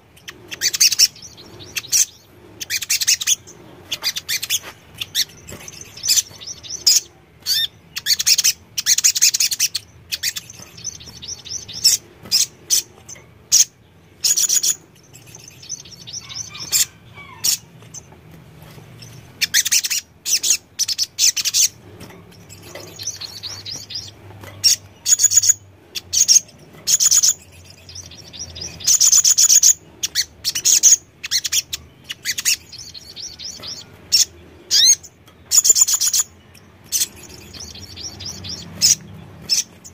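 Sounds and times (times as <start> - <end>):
bird singing high-pitched trills: 0.0 - 18.1, 19.0 - 39.9.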